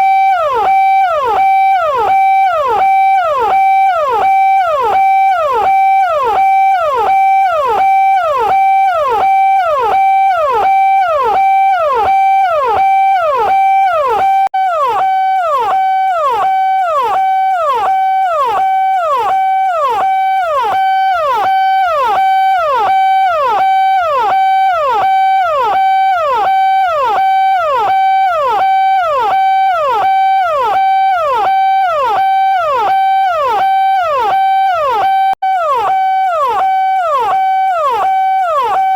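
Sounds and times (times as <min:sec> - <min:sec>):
police siren fast cycle: 0:00.0 - 0:38.9.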